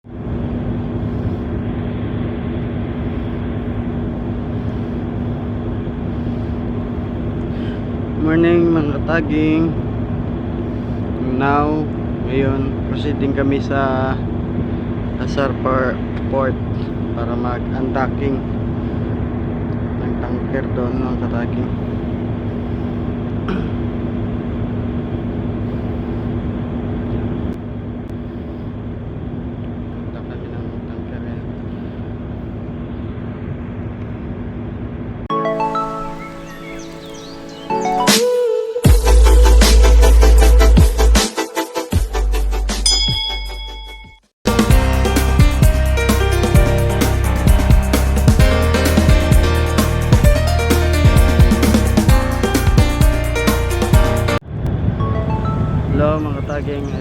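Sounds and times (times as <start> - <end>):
boat diesel engine droning: 0.0 - 35.1, 44.5 - 57.0.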